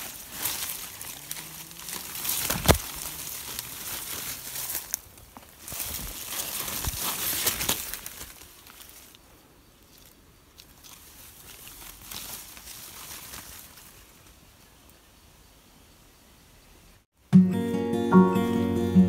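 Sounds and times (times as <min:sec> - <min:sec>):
leaves and undergrowth rustling: 0:00.0 - 0:15.5.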